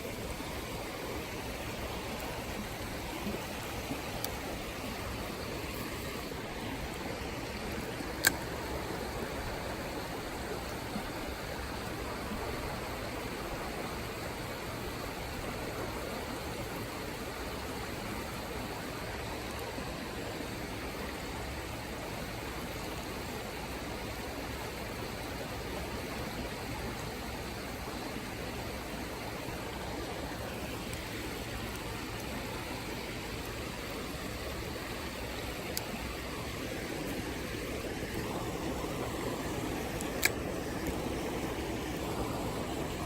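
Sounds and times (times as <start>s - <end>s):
creek running: 0.0s - 43.0s.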